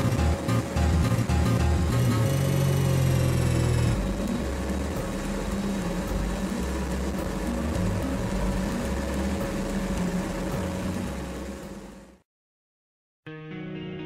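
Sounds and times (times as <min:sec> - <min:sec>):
helicopter engine humming: 0:00.0 - 0:12.0.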